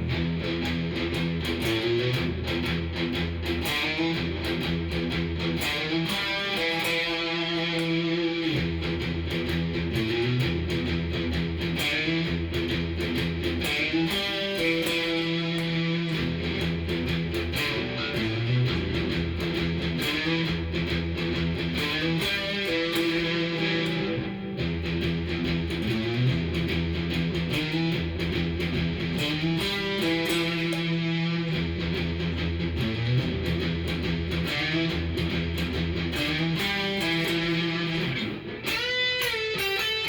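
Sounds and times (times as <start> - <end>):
clean electric guitar chords: 0.0 - 40.0.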